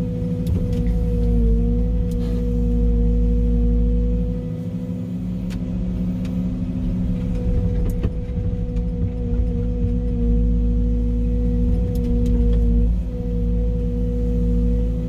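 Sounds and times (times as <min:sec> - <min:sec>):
excavator engine drone: 0:00.0 - 0:15.0
steady whine: 0:00.0 - 0:15.0.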